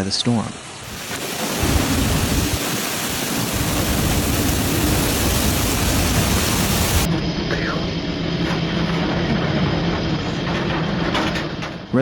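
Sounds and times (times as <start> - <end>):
pouring rain and wind: 0.5 - 12.0
low rumble: 0.8 - 12.0.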